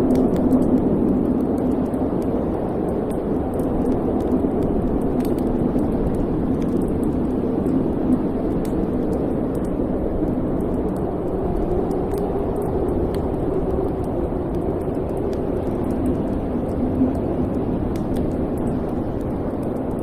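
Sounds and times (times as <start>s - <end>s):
wood fire burning: 0.0s - 20.0s.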